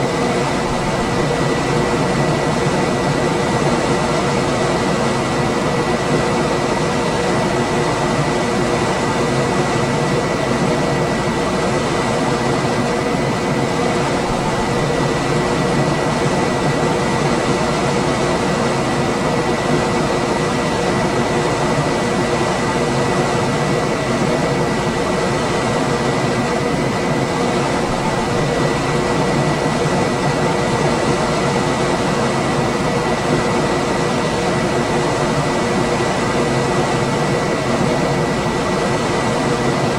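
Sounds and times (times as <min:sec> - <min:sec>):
air conditioner running: 0:00.0 - 0:39.9.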